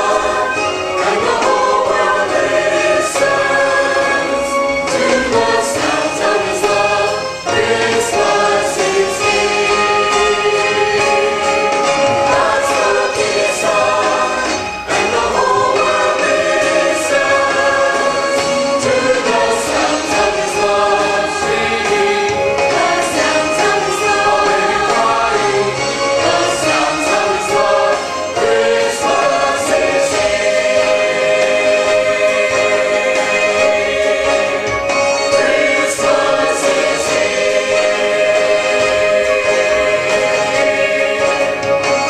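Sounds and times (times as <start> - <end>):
choir singing: 0.0 - 42.0
instrumental accompaniment: 0.0 - 42.0.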